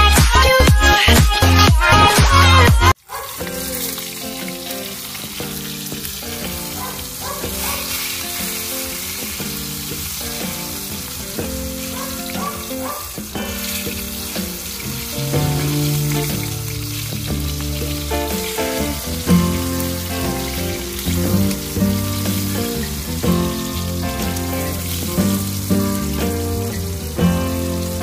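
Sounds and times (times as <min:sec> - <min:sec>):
vegetables sizzling in hot oil: 0:03.0 - 0:28.0.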